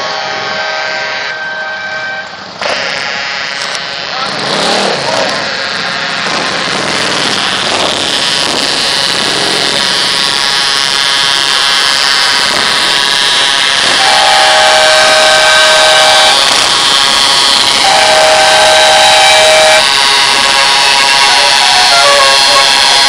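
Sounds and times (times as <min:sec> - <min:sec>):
truck air horns: 0:00.0 - 0:23.0
two-note horn blasts: 0:00.0 - 0:23.0.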